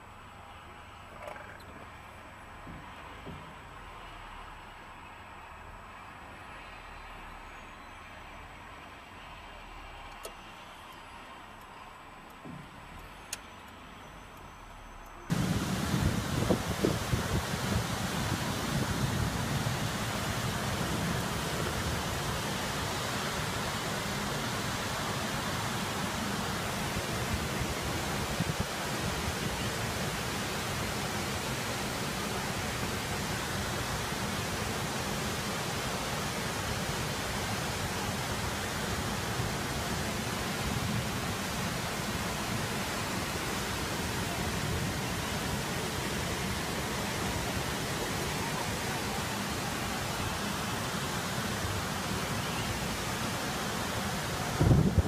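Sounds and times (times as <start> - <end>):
steady hiss: 2.3 - 55.0.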